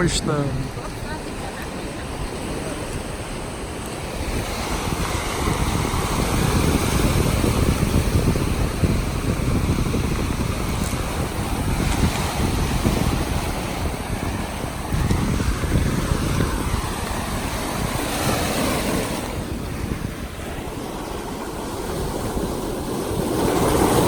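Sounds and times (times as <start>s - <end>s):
sea waves on shore: 0.0s - 24.0s
wind buffeting microphone: 0.0s - 24.0s.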